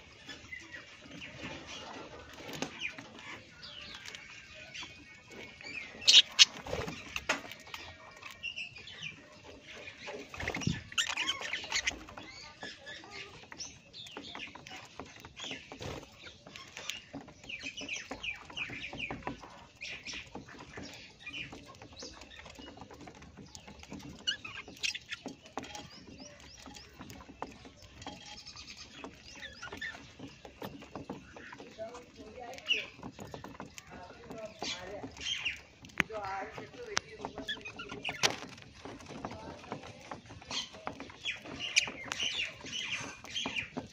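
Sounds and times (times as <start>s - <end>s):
parrots chirping: 0.0s - 39.2s, 39.9s - 43.9s
clicks and rustling: 0.2s - 43.9s.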